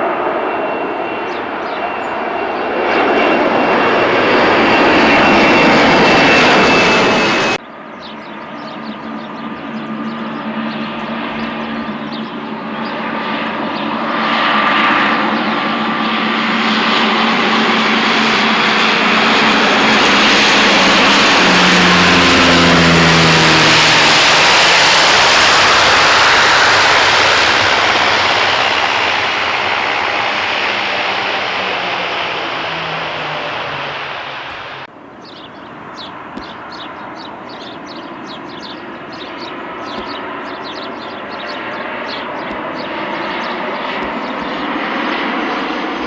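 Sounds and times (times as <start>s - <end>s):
aircraft engines roaring: 0.0s - 46.0s.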